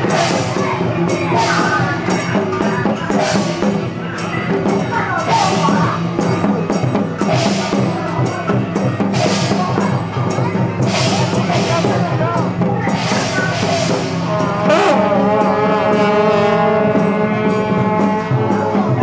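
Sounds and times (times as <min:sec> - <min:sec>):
cymbal crashes: 0:00.0 - 0:18.9
drum strokes: 0:00.0 - 0:19.0
wavering melody: 0:00.0 - 0:19.0.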